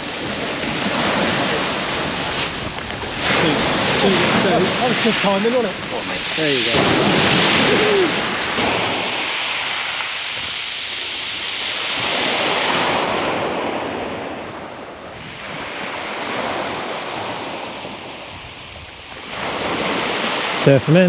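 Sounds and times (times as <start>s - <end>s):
waves washing over shingle beach: 0.0s - 21.0s
wind gusting on microphone: 0.0s - 21.0s.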